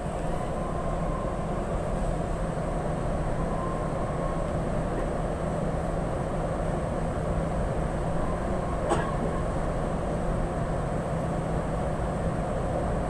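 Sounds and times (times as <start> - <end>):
light-rail car rumble and hum: 0.0 - 13.0.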